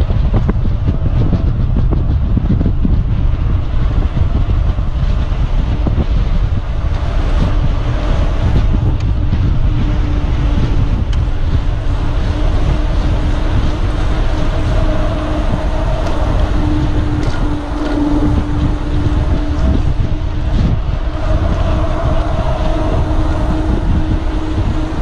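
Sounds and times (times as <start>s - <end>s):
bike rolling hum: 0.0s - 25.0s
wind buffeting microphone: 0.0s - 25.0s.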